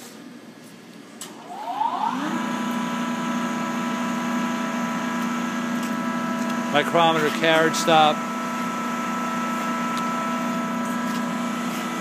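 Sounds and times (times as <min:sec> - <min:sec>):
lathe motor whining and humming: 0:01.3 - 0:12.0.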